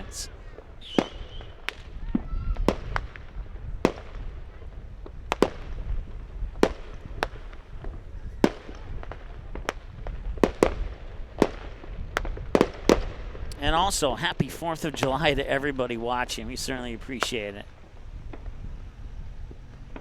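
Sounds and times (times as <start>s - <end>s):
firecrackers banging: 0.0s - 20.0s.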